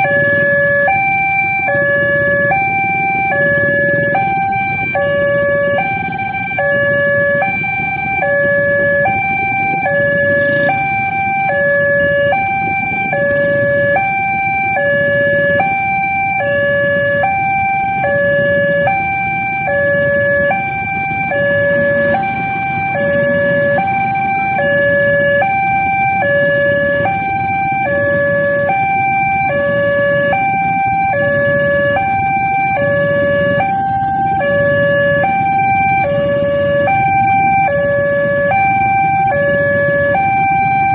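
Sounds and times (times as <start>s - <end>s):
level crossing two-tone alarm: 0.0s - 40.9s.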